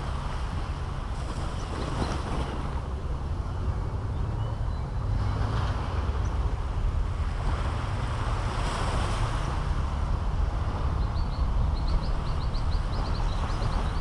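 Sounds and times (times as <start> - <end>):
surf washing on beach: 0.0 - 14.0
wind on microphone: 0.0 - 14.0.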